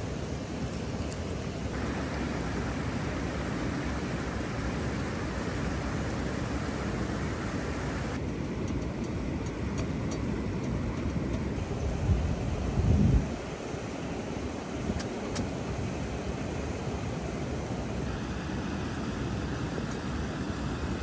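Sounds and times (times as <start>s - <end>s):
river water pouring over weir: 0.0s - 8.6s, 11.5s - 21.0s.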